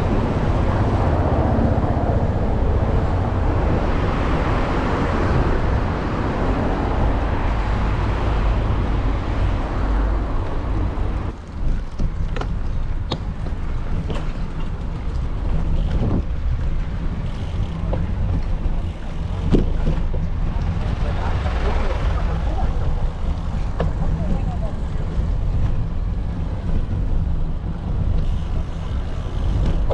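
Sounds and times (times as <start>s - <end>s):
road noise: 0.0s - 29.9s
wind rumbling on microphone: 0.0s - 29.9s.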